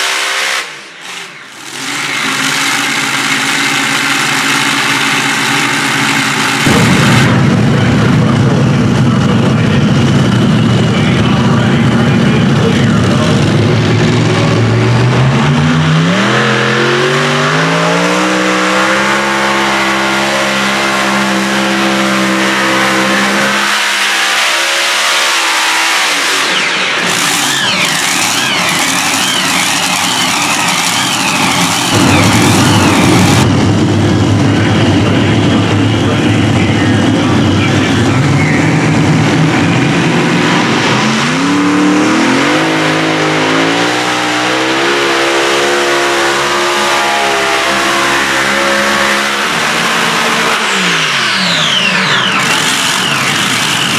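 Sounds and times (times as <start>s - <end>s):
mixed noise: 0.0s - 53.9s
pulling tractor engine revving: 0.0s - 53.9s.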